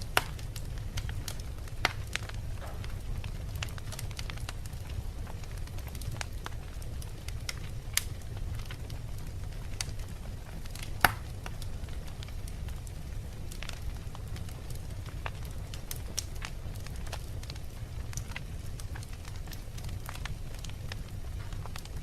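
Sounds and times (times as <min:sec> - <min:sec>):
crackling and popping logs: 0:00.0 - 0:22.0
fire flames rumbling: 0:00.0 - 0:22.0.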